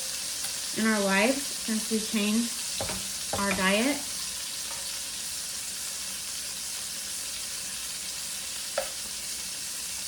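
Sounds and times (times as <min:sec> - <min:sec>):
steaks sizzling in a frying pan: 0:00.0 - 0:10.0.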